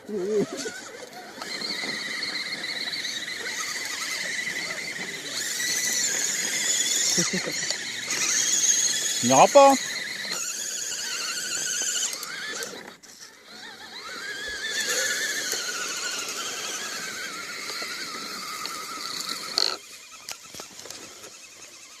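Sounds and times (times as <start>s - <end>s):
electric motor and gear whine: 0.0s - 22.0s.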